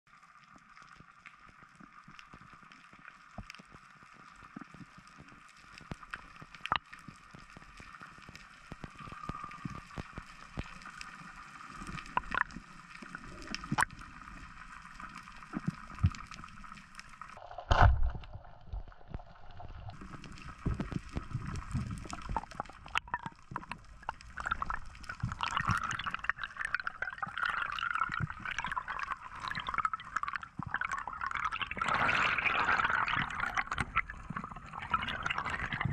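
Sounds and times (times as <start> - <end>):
bubbling and rushing water: 4.0 - 35.9
sharp underwater clicks: 4.6 - 35.9.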